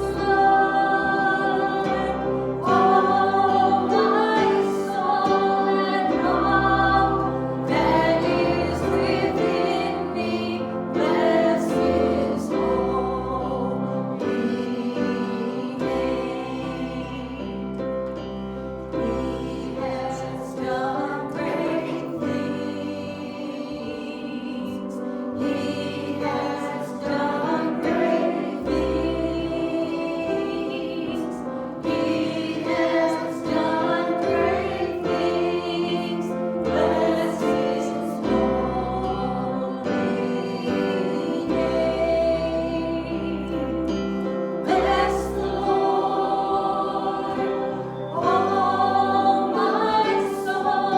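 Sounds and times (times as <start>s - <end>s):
group singing worship music: 0.0s - 50.9s
instrumental accompaniment: 0.0s - 50.9s.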